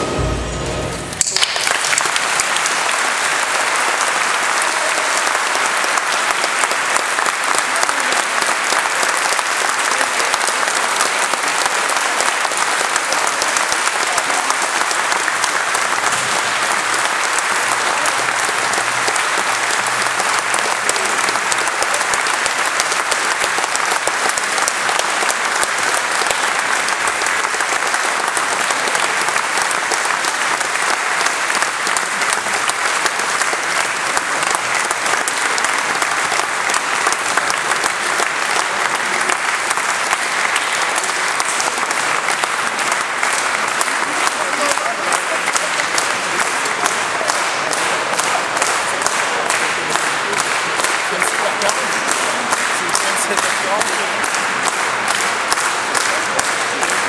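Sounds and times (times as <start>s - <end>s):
audience applauding: 1.1s - 57.0s.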